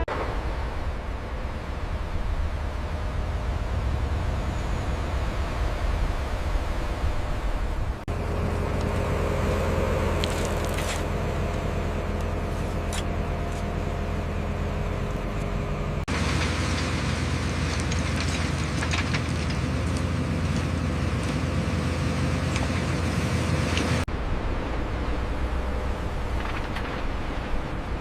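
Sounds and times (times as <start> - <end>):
heavy construction machinery droning: 0.0 - 28.0.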